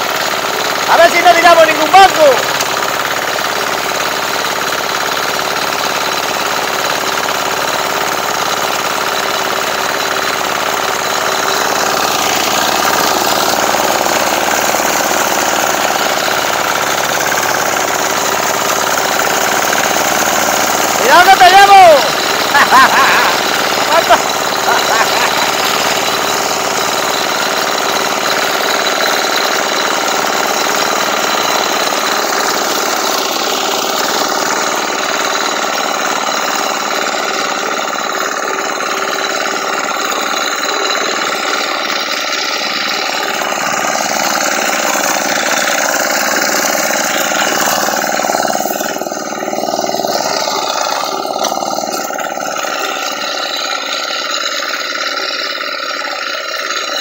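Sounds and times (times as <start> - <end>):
sickle-bar mower cutting grass: 0.0 - 57.0
small tractor engine running: 0.0 - 57.0.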